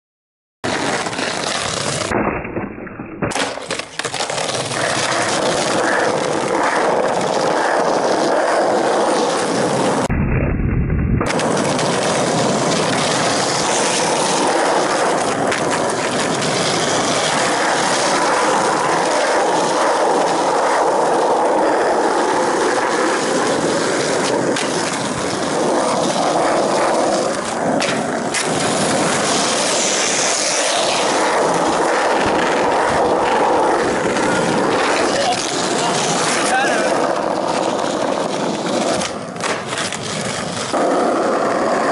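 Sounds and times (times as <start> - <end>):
skateboard wheels rolling on asphalt: 0.6 - 10.1, 11.2 - 41.9
skateboard clacks: 3.2 - 10.1, 11.2 - 41.9.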